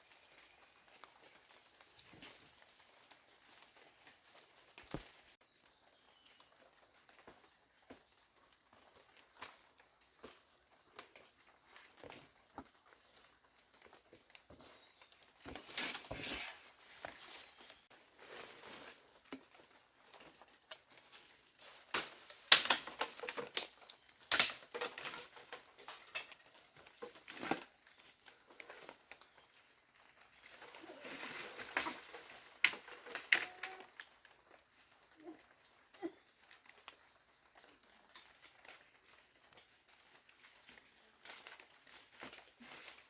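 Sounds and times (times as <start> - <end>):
clatter of things handled: 6.0 - 34.9, 36.0 - 43.0.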